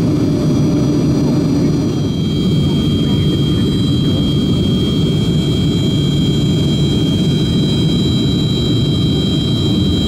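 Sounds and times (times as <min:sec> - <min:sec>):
high engine whine: 0:00.0 - 0:10.0
jet engine low rumble: 0:00.0 - 0:10.0.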